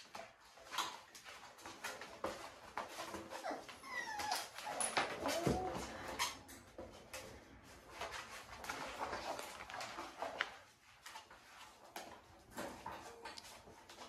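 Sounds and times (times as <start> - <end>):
puppies making small noises: 0.0 - 14.0
rustling and light clicks: 0.0 - 14.0.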